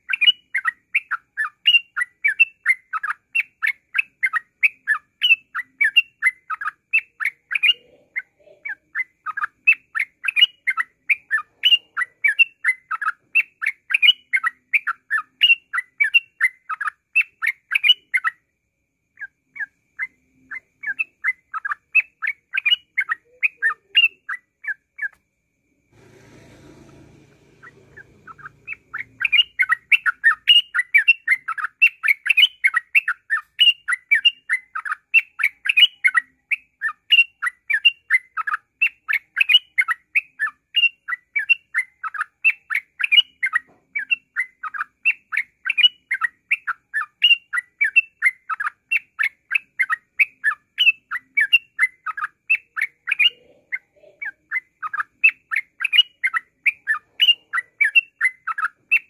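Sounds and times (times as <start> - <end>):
bird chattering song: 0.0 - 18.4, 19.2 - 25.2, 27.2 - 59.0.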